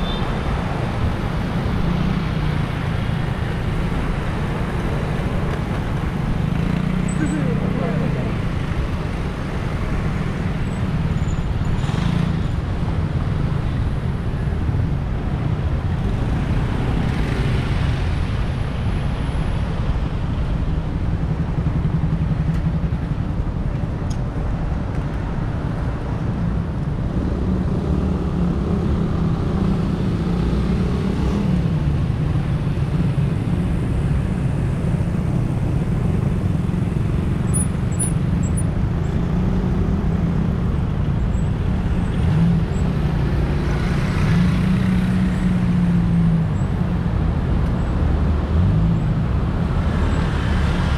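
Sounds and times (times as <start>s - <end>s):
road traffic rumble: 0.0s - 50.9s.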